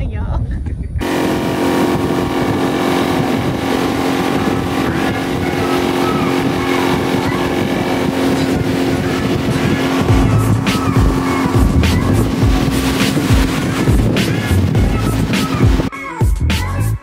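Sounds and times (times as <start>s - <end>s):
outboard motor droning: 1.0s - 15.9s.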